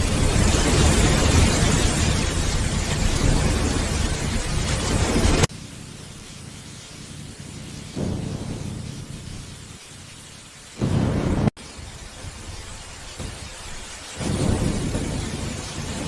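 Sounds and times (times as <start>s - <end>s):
heavy rain: 0.0s - 16.0s
thunder rumbling: 0.0s - 16.0s.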